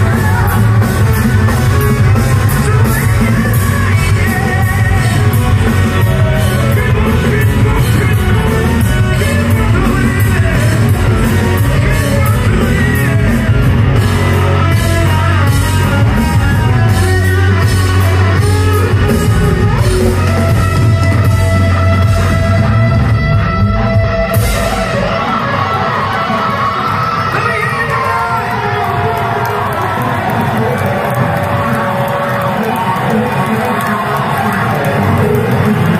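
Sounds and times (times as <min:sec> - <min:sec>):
vocals: 0:00.0 - 0:22.9, 0:24.4 - 0:35.9
drums: 0:00.0 - 0:35.9
electric guitars: 0:00.0 - 0:35.9.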